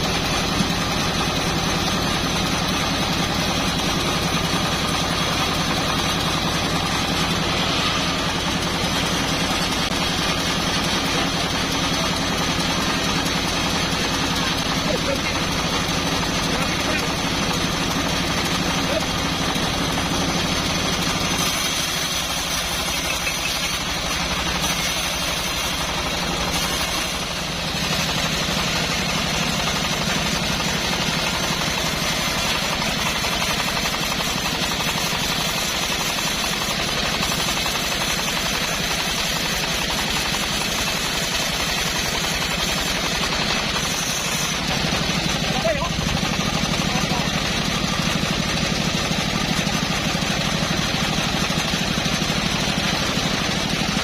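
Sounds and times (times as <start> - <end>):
bandsaw mill sawing wood: 0.0 - 54.0.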